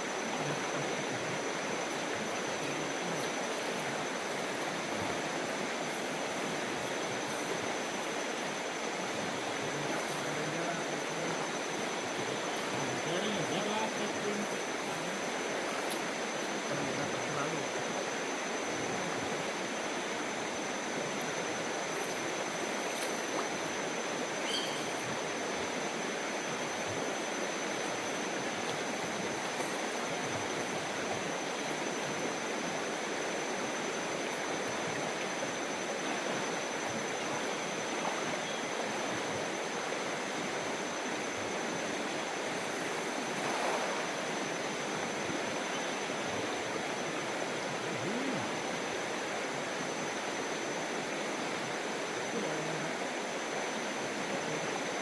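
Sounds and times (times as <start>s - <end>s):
faint steady high tone: 0.0s - 43.2s, 44.0s - 55.0s
river flowing over rocks: 0.0s - 55.0s.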